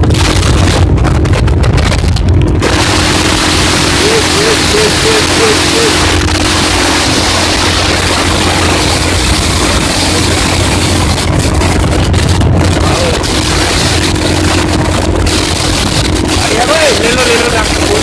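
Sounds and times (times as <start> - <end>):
motorcycle engine running: 0.0 - 18.0
wind rushing over microphone: 0.0 - 18.0.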